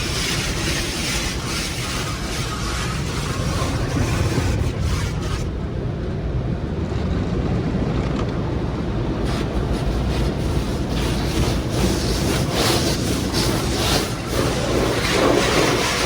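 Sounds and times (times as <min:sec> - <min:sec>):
car wash water spray and machinery: 0:00.0 - 0:16.0.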